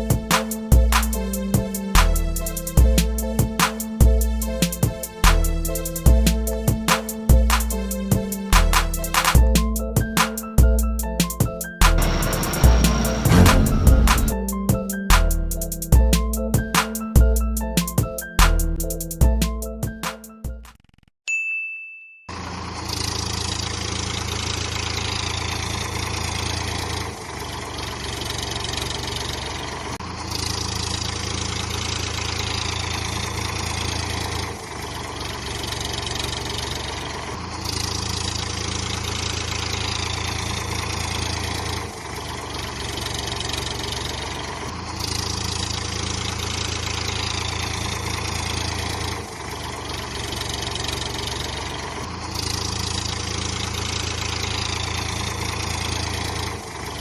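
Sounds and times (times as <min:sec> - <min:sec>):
tractor engine running: 0:00.0 - 0:20.4, 0:22.3 - 0:57.0.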